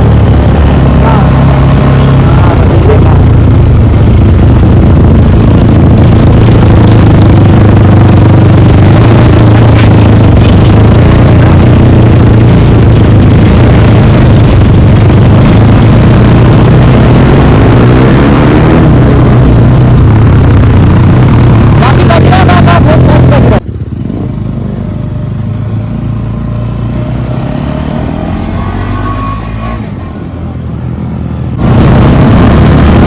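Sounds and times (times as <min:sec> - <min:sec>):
motorcycle engine rumbling: 0:00.0 - 0:33.0.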